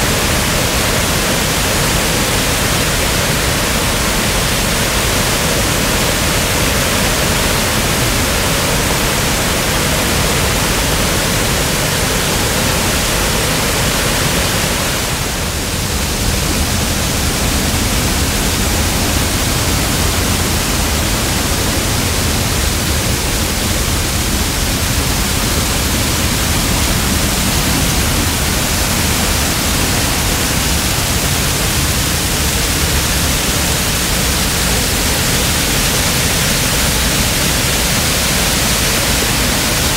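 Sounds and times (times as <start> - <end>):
loud roar of rushing water: 0.0 - 39.9.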